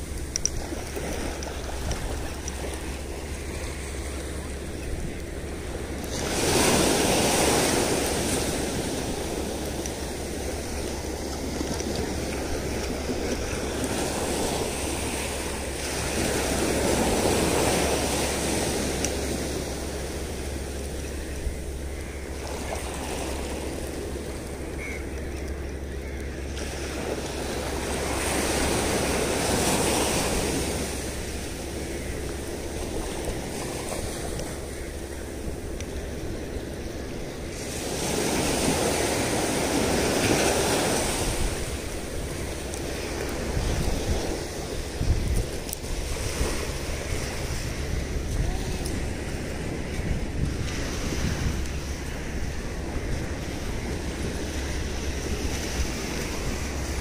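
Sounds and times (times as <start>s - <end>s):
waves washing onto a beach: 0.0s - 57.0s.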